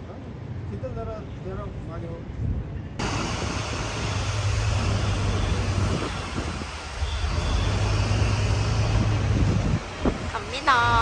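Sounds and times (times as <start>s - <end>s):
outdoor noise: 0.0s - 11.0s
vehicle rumble: 0.0s - 11.0s.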